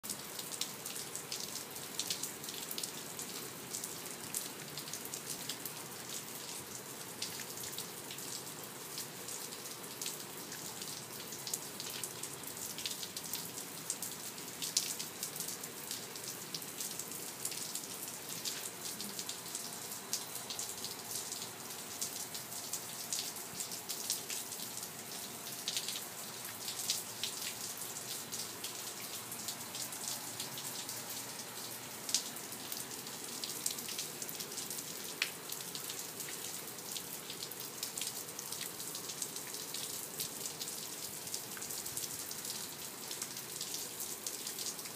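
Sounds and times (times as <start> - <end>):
steady rain hiss: 0.0 - 44.9
raindrops ticking: 7.2 - 44.9.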